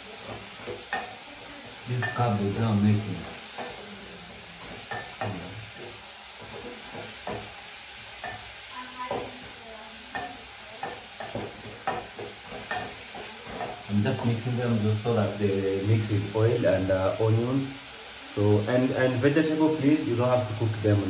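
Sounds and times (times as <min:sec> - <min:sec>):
cabbage sizzling in oil: 0:00.0 - 0:21.0.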